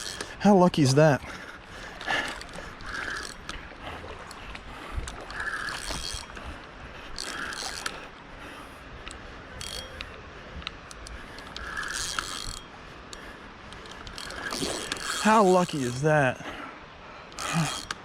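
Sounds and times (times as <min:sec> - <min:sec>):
fishing reel clicking and whirring: 0:00.0 - 0:01.3, 0:01.9 - 0:08.1, 0:09.0 - 0:10.2, 0:10.8 - 0:16.0, 0:17.3 - 0:18.0.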